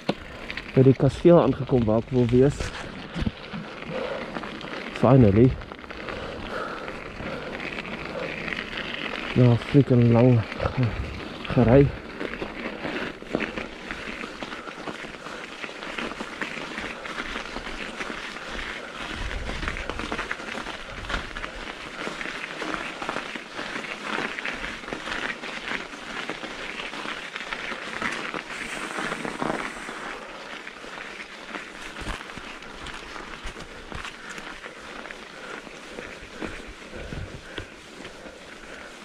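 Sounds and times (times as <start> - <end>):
snow crunching: 0.0 - 39.0.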